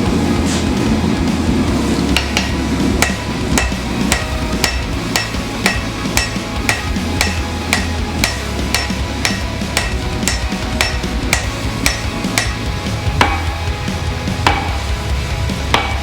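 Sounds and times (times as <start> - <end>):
steady low hum: 0.0 - 16.0
hammer blows on steel: 2.1 - 15.0.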